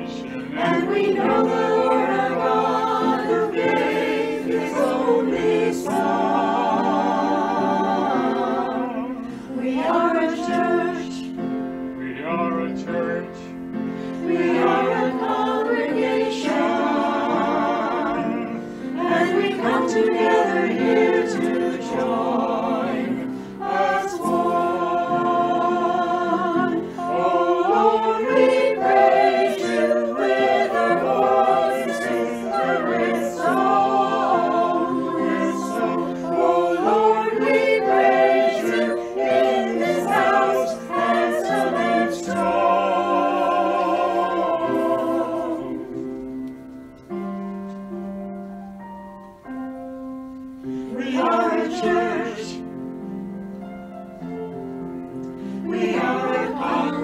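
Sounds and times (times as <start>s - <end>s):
church choir singing a hymn: 0.0s - 46.5s, 50.6s - 53.0s, 55.2s - 57.0s.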